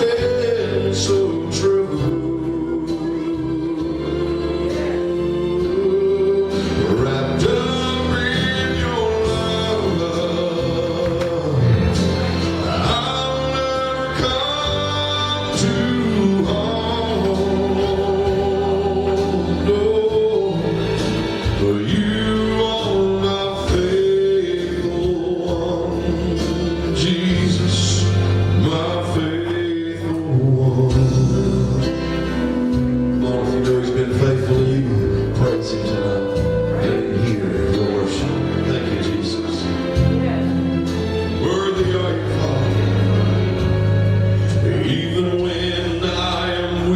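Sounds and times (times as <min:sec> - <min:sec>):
instrumental accompaniment with bass: 0:00.0 - 0:46.9
man singing: 0:00.0 - 0:46.9.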